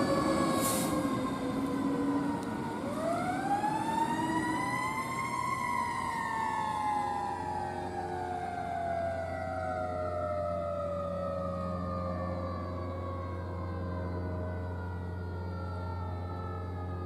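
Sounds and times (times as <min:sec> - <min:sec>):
fire truck siren wailing: 0:00.0 - 0:17.0.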